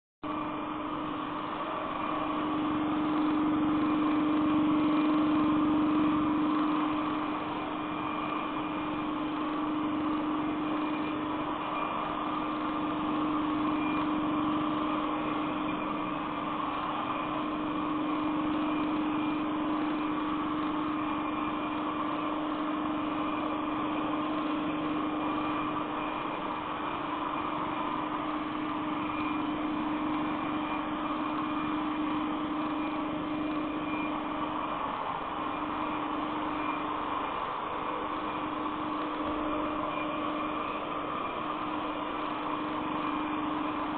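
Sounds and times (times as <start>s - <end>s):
robot vacuum whirring: 0.3s - 43.9s.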